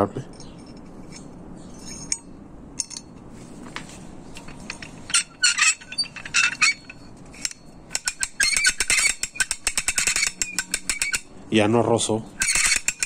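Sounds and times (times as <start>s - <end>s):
metallic clinks of winch cable: 0.3s - 3.2s, 4.3s - 11.3s, 12.4s - 13.0s.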